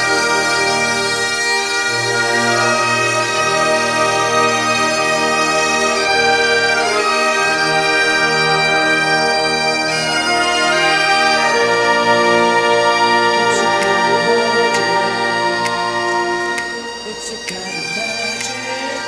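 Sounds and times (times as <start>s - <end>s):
bagpipe music: 0.0s - 19.0s.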